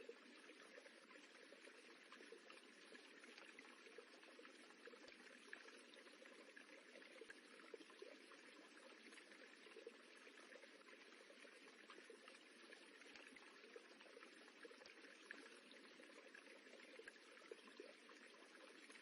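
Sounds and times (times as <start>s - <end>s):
running water rippling: 0.0s - 19.0s.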